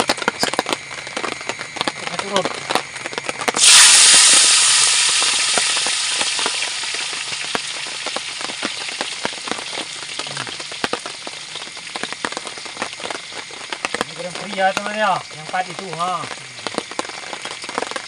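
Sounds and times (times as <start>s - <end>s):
food sizzling in hot oil: 1.4s - 18.0s.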